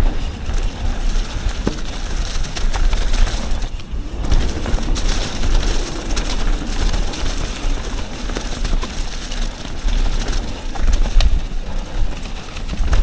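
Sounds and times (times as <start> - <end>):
bicycle tyre noise: 0.0 - 13.0
bike rattles and clicks: 0.0 - 13.0
wind rumbling on microphone: 0.0 - 13.0.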